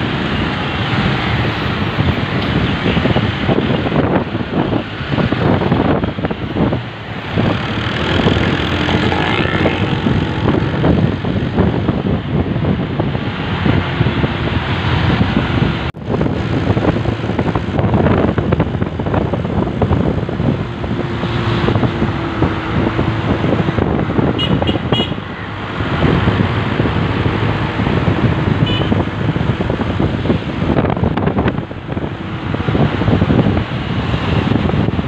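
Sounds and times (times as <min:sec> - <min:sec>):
motorbike road noise: 0:00.0 - 0:35.0
rushing wind: 0:00.0 - 0:35.0.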